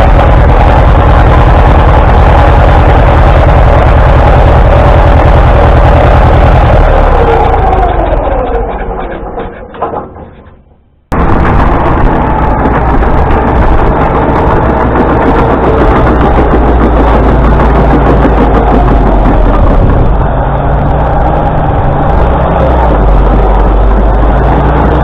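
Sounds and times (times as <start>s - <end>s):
heavy engine rumbling: 0.0s - 25.0s.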